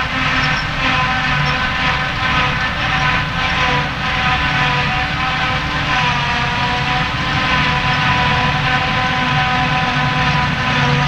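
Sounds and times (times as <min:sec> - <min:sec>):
harvester engine rumble: 0:00.0 - 0:11.0
high whine of chopping gear: 0:00.0 - 0:11.0.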